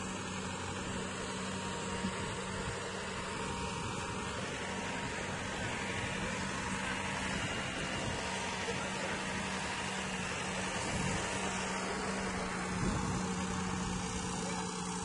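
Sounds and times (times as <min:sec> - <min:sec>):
broad rushing noise: 0:00.0 - 0:15.0
tractor engine running: 0:00.0 - 0:15.0.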